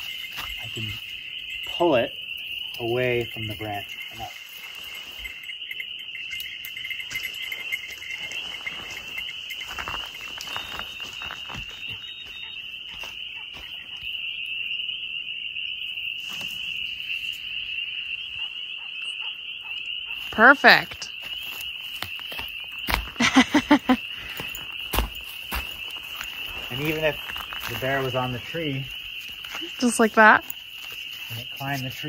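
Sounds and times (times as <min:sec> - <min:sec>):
frogs peeping chorus: 0:00.0 - 0:32.0.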